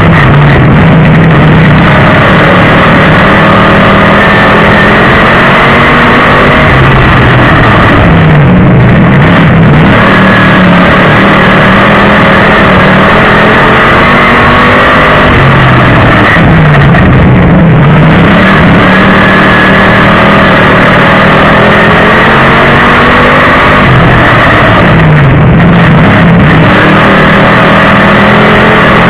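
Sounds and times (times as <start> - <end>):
racing car engine: 0.0 - 29.0.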